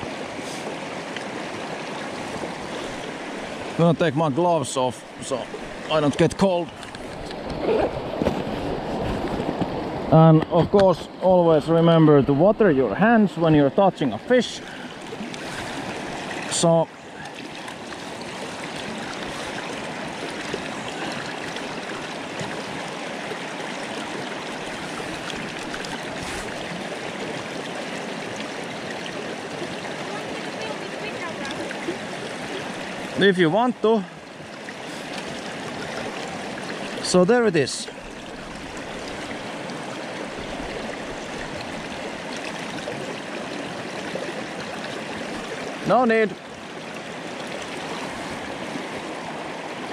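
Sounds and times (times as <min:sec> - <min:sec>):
river water rushing over rocks: 0:00.0 - 0:49.9.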